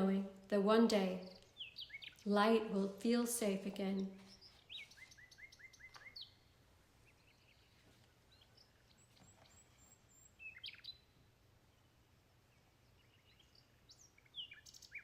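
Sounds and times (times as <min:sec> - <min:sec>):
bird chirping: 0:00.8 - 0:15.0.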